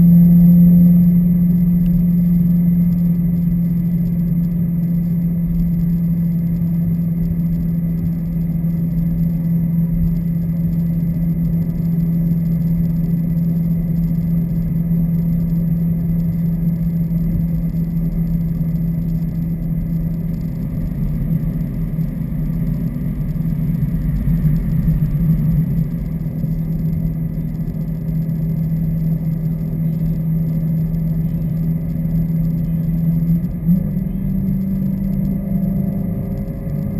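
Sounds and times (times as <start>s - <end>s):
car engine exhaust drone: 0.0s - 36.9s.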